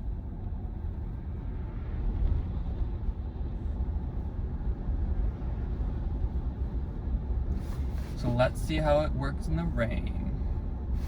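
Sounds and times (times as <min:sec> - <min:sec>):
road and tyre rumble inside car: 0:00.0 - 0:11.0.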